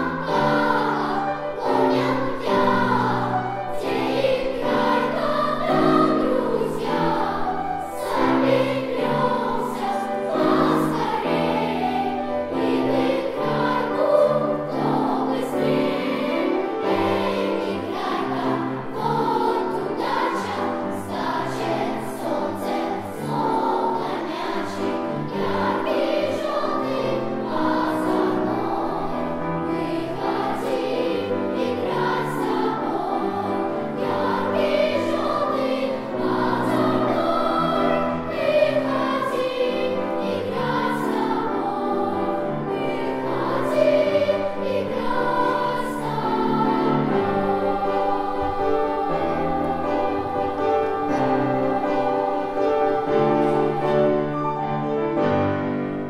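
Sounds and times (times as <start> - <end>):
children's choir singing: 0.0 - 56.0
low accompanying notes: 0.0 - 56.0.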